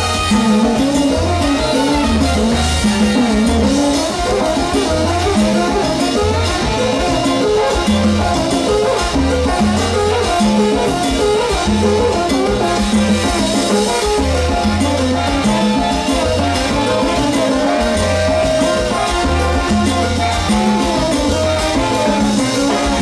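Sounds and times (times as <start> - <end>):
electric bass line: 0.0 - 23.0
percussion: 0.0 - 23.0
salsa band playing: 0.0 - 23.0.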